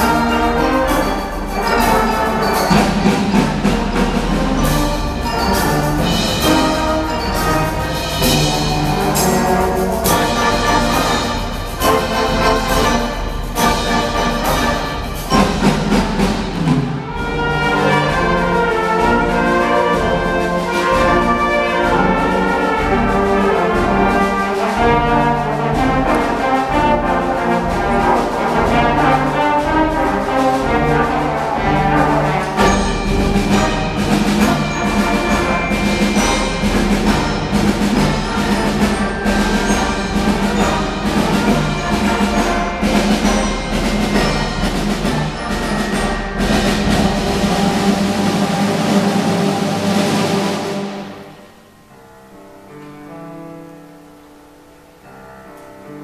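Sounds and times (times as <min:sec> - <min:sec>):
brass band playing: 0:00.0 - 0:51.9
mallet percussion: 0:00.0 - 0:51.9.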